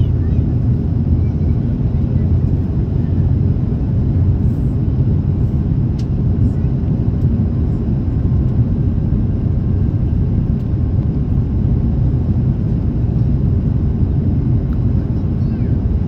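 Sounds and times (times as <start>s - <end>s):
airliner cabin low rumble: 0.0s - 16.0s.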